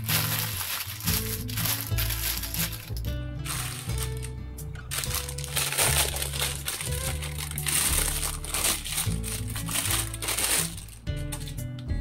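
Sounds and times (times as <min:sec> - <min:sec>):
plastic wrapping crinkling: 0:00.0 - 0:11.6
background music with bass: 0:00.0 - 0:12.0.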